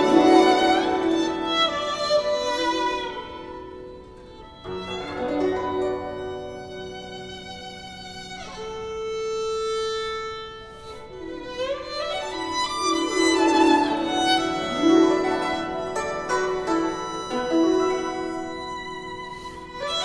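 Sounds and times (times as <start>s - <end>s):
bowed string melody: 0.0s - 20.0s.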